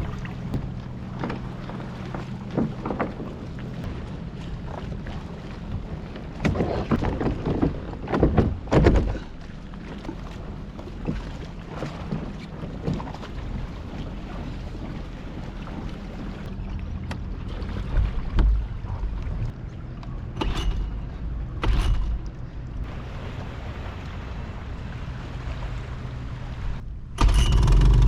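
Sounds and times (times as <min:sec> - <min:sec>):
boat motor humming: 0:00.0 - 0:28.0
water noise: 0:00.0 - 0:28.0
wind: 0:00.0 - 0:28.0.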